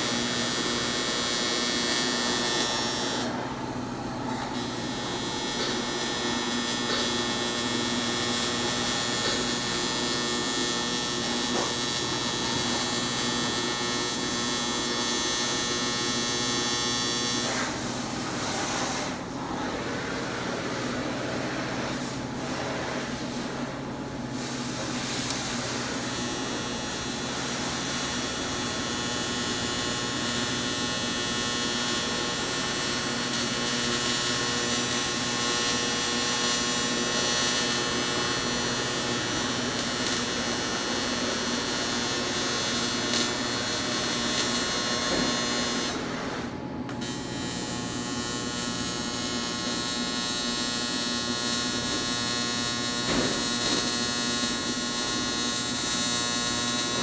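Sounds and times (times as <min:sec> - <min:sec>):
welding arc buzzing: 0:00.0 - 0:19.4, 0:21.8 - 0:57.0.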